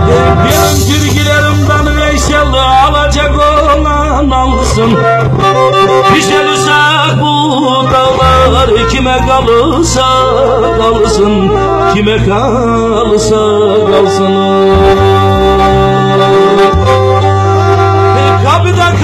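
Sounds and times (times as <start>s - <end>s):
bowed fiddle: 0.0s - 19.0s
keyboard with bass line: 0.0s - 19.0s
man singing into a microphone: 0.0s - 19.0s.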